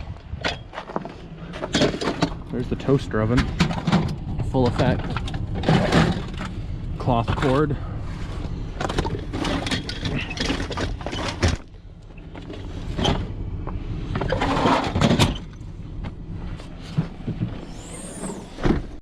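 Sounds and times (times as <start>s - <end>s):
scrap metal knocking and rattling: 0.1s - 17.6s
low rumble: 2.0s - 19.0s.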